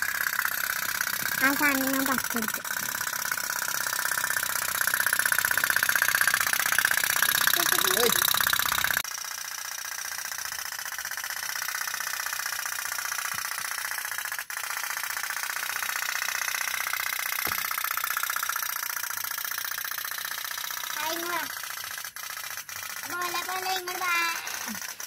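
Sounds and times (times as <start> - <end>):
toy steam boat putt-putt rattle: 0.0 - 25.0.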